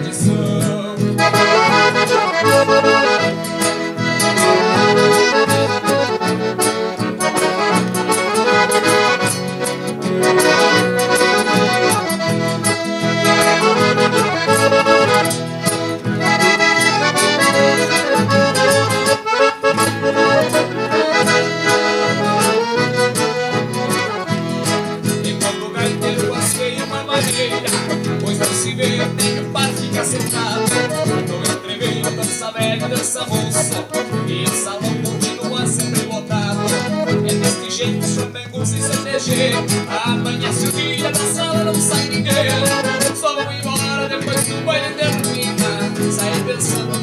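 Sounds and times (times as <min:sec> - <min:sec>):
accordion playing: 0:00.0 - 0:47.0
steady bass accompaniment: 0:00.0 - 0:47.0.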